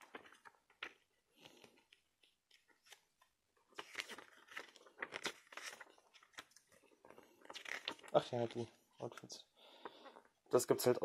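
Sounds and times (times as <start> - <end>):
paper pages rustling: 0.0 - 10.4.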